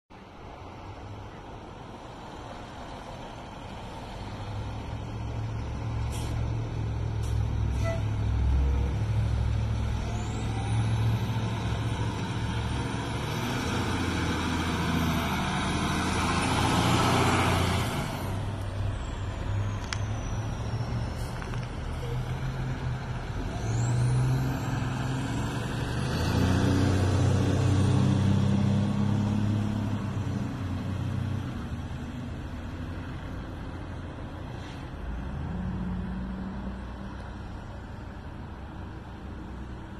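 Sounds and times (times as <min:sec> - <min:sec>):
fire engine diesel engine rumbling: 0:00.2 - 0:39.9.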